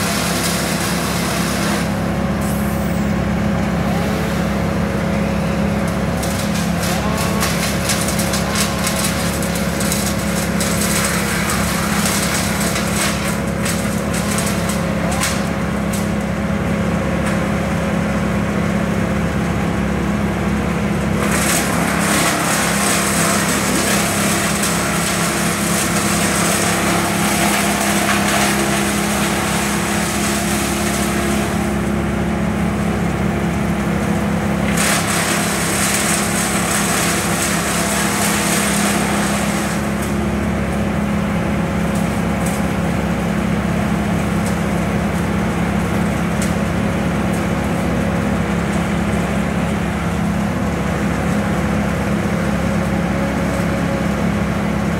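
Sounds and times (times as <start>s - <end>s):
truck engine running: 0.0s - 54.9s.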